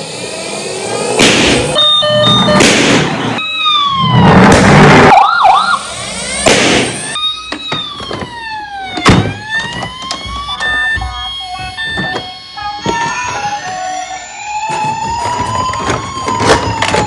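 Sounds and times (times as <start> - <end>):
emergency vehicle sirens wailing: 0.0 - 17.0.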